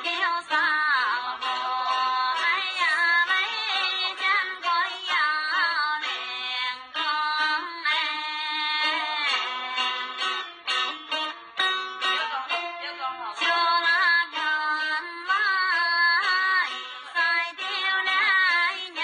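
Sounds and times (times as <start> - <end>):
high voice singing a melody: 0.0 - 10.4, 12.0 - 19.0.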